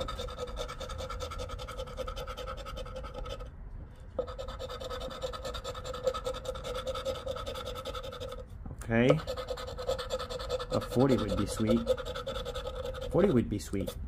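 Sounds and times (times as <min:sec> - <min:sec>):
coin scratching lottery ticket: 0:00.0 - 0:03.4, 0:04.2 - 0:08.4, 0:09.2 - 0:14.0.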